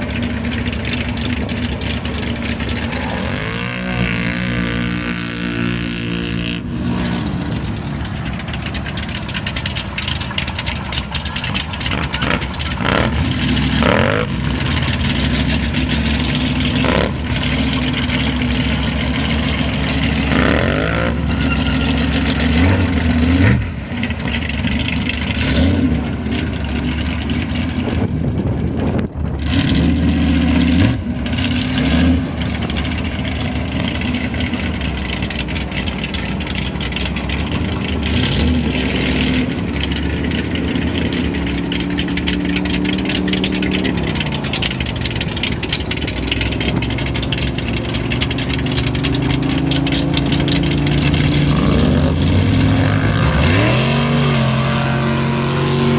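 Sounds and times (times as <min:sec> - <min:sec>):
truck engines revving: 0:00.0 - 0:55.9.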